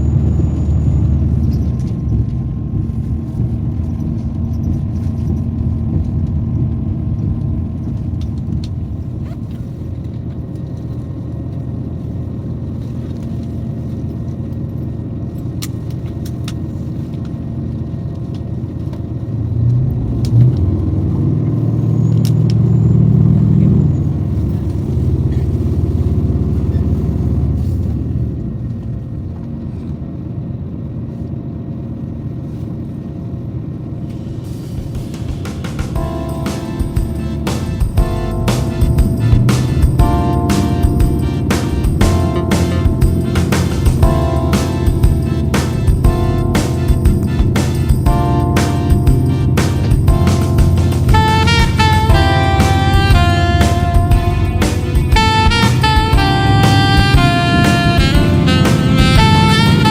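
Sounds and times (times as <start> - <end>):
diesel train rumbling: 0.0 - 59.9.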